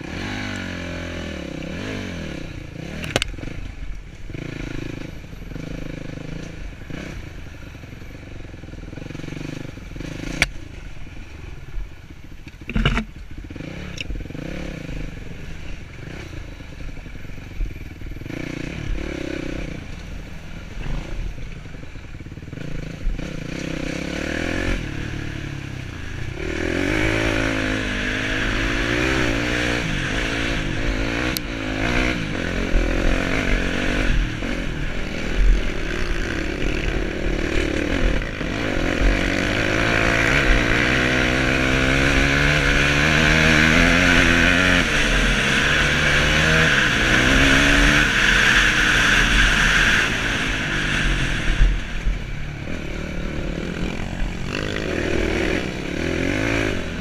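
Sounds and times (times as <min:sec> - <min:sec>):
dirt bike engine revving: 0:00.0 - 0:08.1, 0:08.8 - 0:11.2, 0:12.6 - 0:57.0.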